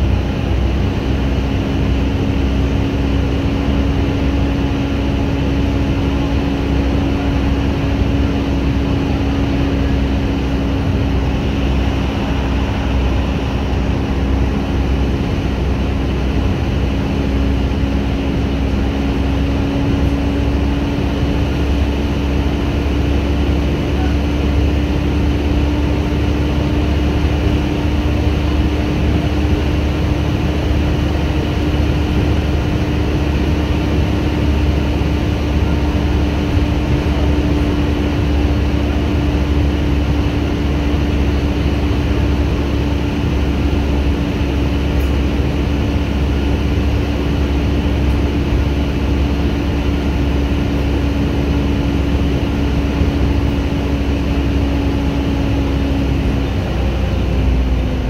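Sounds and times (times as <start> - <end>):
bus engine rumble: 0.0 - 58.0
bus whine: 0.0 - 58.0.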